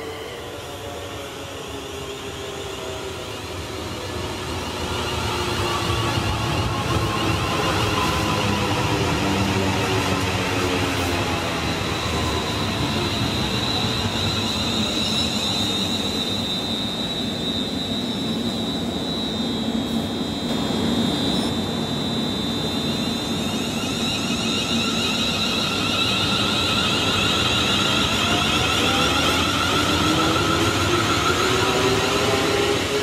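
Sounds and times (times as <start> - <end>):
high-pitched traction whine: 0.0 - 33.0
train wheels rumbling on rail: 0.0 - 33.0.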